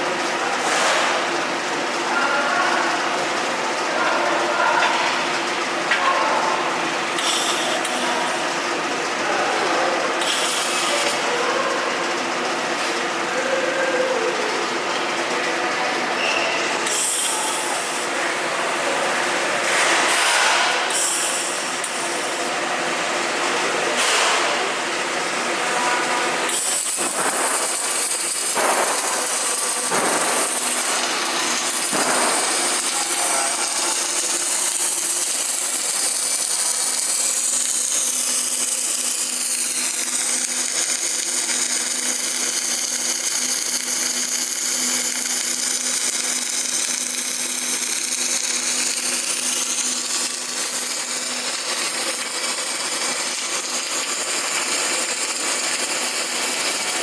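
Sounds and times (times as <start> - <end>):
power tool running: 0.0 - 13.4, 24.0 - 57.0.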